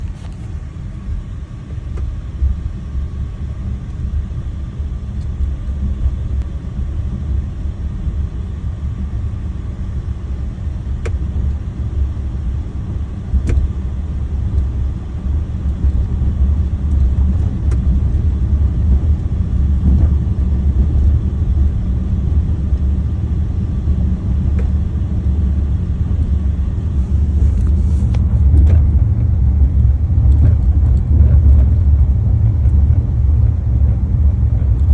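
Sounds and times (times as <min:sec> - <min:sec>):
road and tyre rumble: 0:00.0 - 0:34.9.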